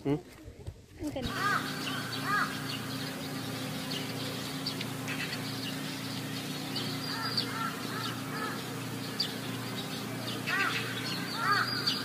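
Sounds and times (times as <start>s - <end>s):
steady low hum: 0.8s - 12.0s
birds cawing: 1.2s - 12.0s.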